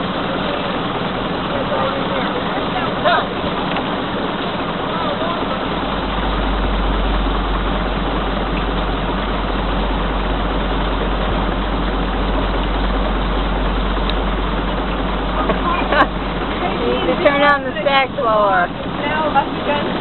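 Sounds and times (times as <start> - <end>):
boat hull rushing through water: 0.0 - 20.0
low steady rumble: 0.0 - 20.0
wind: 0.0 - 20.0.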